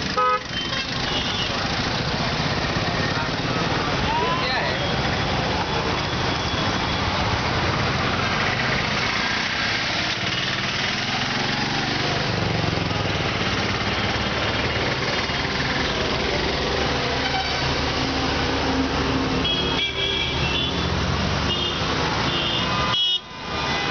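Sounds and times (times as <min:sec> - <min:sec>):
road traffic passing: 0:00.0 - 0:23.9.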